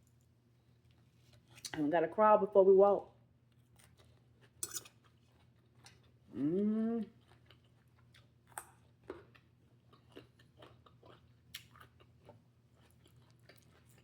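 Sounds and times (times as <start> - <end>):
person chewing salad: 0.6 - 1.8, 3.4 - 14.0.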